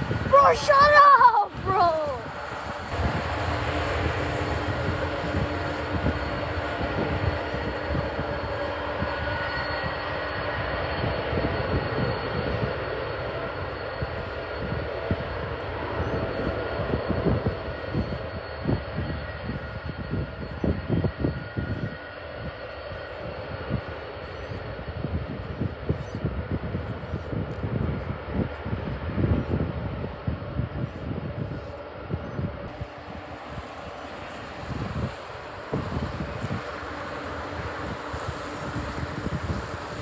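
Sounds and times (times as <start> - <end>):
jet engines roaring: 0.0 - 40.0
wind buffeting microphone: 0.0 - 40.0.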